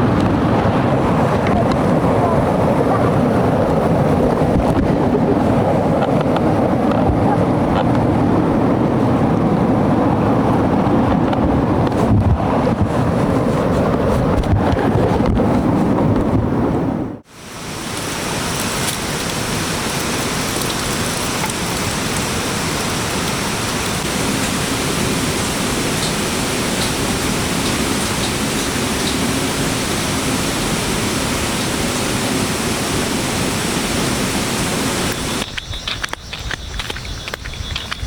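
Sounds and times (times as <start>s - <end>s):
wind noise on microphone: 0.0s - 38.0s.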